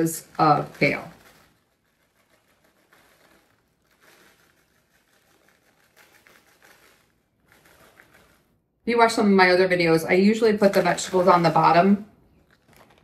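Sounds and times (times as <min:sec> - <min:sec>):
rustling of plastic bag: 0:00.0 - 0:08.7, 0:10.2 - 0:13.0.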